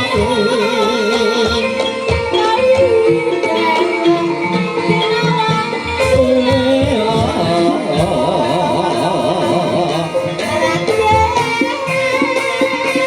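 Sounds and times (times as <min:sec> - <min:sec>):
drums beating steady rhythm: 0:00.0 - 0:13.0
person singing: 0:00.0 - 0:13.0.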